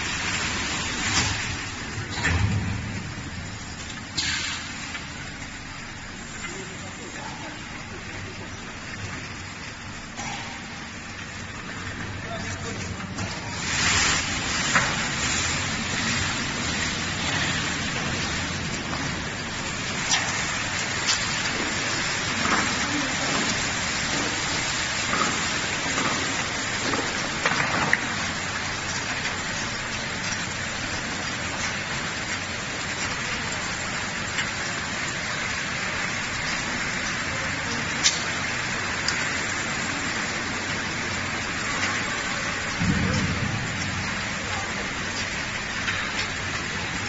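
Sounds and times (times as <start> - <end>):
water spraying hiss: 0.0 - 47.0.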